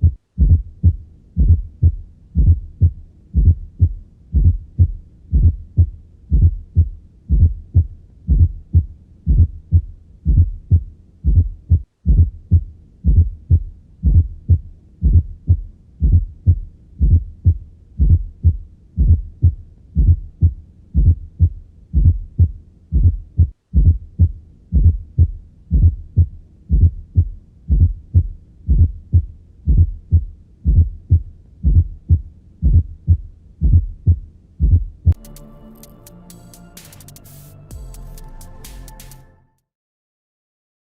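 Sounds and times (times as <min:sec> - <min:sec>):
heartbeat through a stethoscope: 0:00.0 - 0:35.2.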